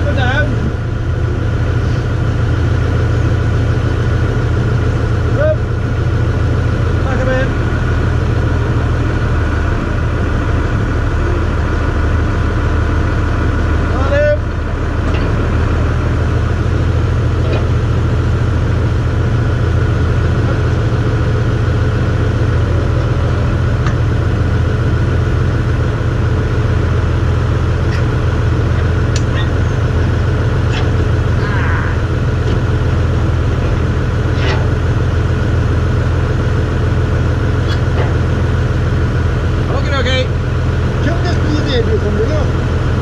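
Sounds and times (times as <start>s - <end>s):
tractor engine droning: 0.0s - 43.0s.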